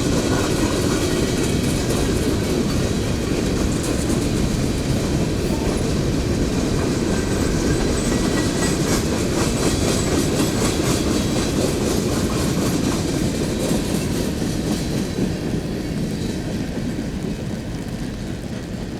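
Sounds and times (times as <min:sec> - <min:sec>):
clickety-clack over rail joints: 0:00.0 - 0:18.9
train wheels rumbling on rails: 0:00.0 - 0:18.9.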